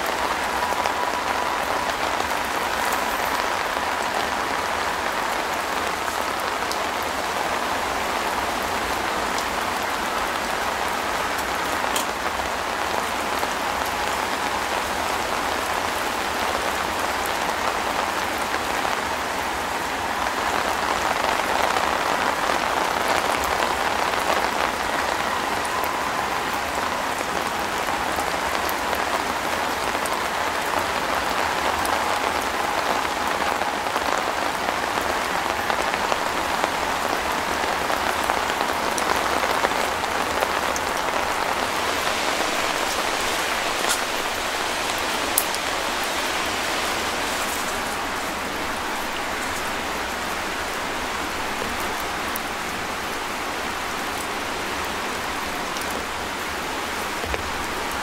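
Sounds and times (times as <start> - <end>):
rain drops ticking: 0.0 - 58.0.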